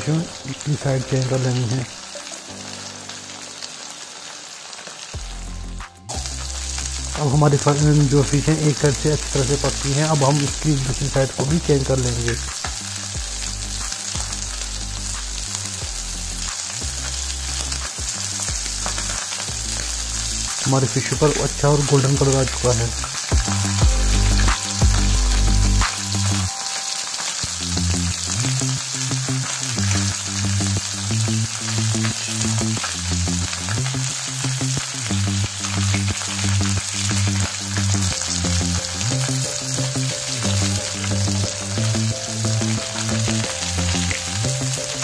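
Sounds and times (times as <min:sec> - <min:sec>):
fish sizzling in oil: 0:00.0 - 0:45.0.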